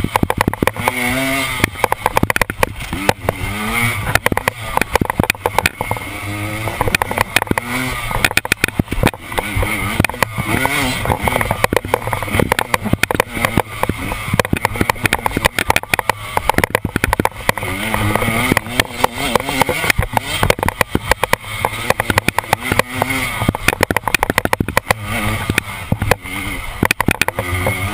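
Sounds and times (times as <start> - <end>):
dirt bike engine revving: 0.0 - 27.9
knocks and clatter of bike jolting: 0.0 - 27.9.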